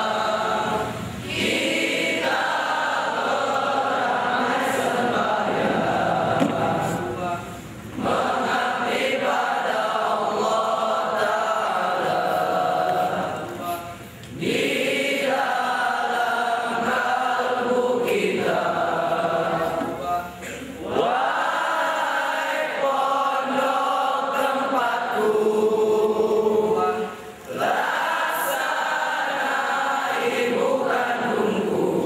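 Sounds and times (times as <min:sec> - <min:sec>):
young men singing together: 0:00.0 - 0:32.0.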